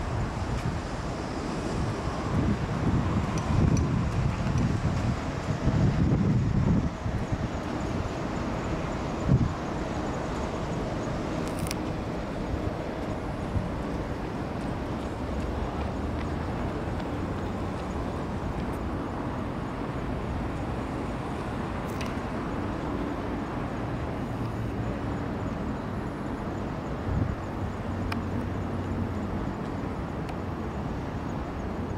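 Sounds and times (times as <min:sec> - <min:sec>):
engines and city traffic hum: 0:00.0 - 0:31.9.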